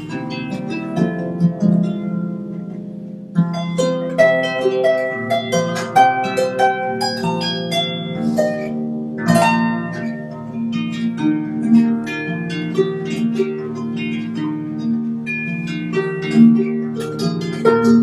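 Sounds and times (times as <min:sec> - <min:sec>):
harp music: 0:00.0 - 0:18.0.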